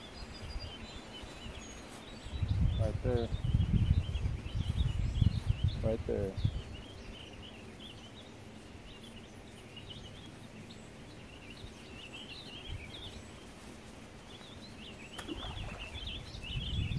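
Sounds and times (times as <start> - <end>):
faint outdoor background noise: 0.0 - 16.9
small birds chirping: 0.0 - 16.9.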